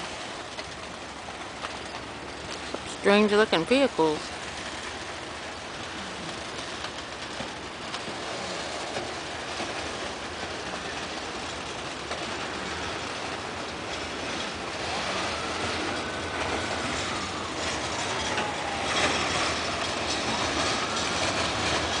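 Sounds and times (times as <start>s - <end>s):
train wheels clacking over rail joints: 0.0s - 22.0s.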